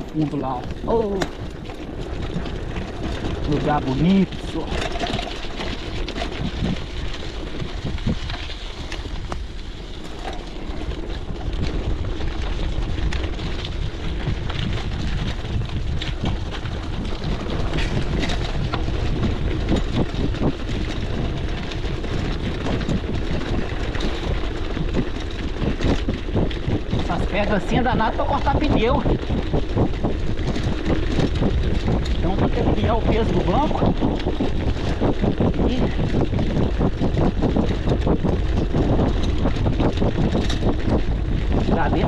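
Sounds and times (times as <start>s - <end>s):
bike tyres rattling on stones: 0.0s - 42.0s
wind noise on microphone: 0.0s - 42.0s.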